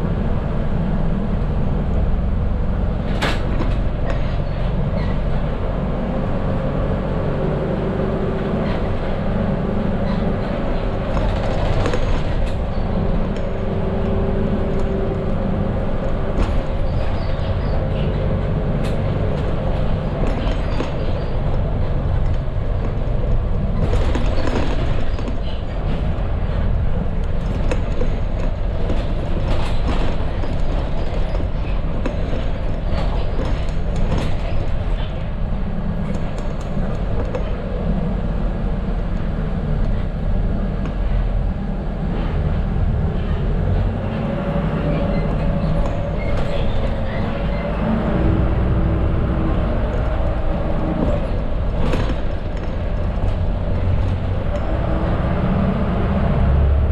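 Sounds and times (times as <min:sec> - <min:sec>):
bus diesel engine drone: 0:00.0 - 0:56.9
road noise: 0:00.0 - 0:56.9.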